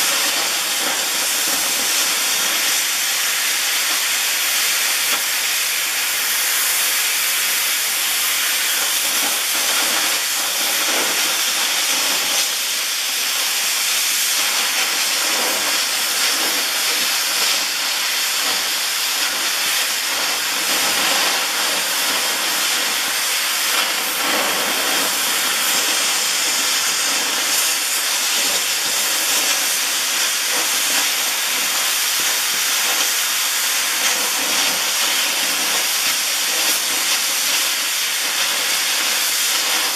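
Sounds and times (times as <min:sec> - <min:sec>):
cutting torch hissing: 0:00.0 - 0:39.9.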